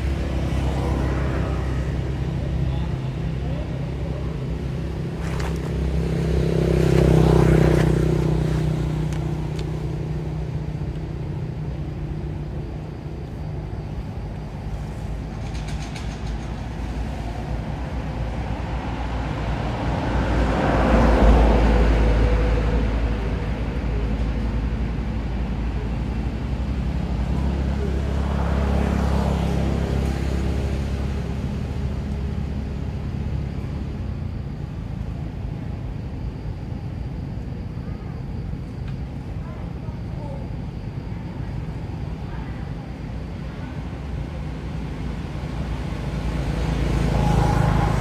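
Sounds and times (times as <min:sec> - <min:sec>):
road traffic engine hum: 0:00.0 - 0:48.0
vehicles passing: 0:00.0 - 0:48.0.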